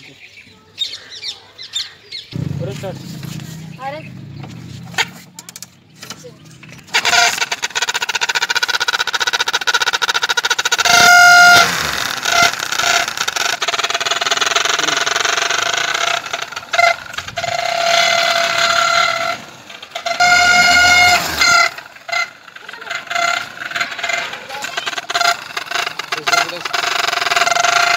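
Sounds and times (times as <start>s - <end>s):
motorcycle exhaust popping: 2.3s - 27.9s
toy horn honking: 5.0s - 27.9s.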